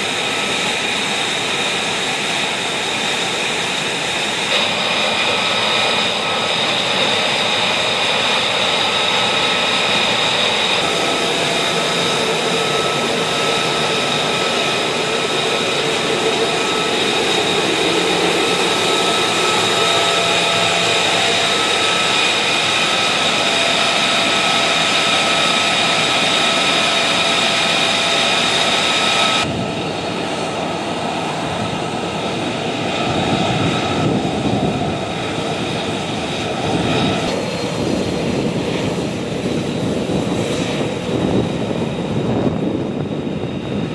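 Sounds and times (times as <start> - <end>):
jet engine idling: 0.0 - 43.9.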